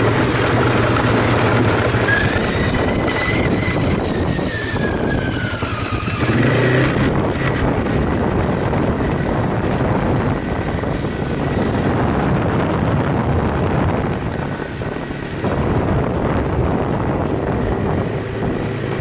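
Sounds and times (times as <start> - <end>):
vehicle engine running: 0.0 - 19.0
wind on microphone: 0.0 - 19.0.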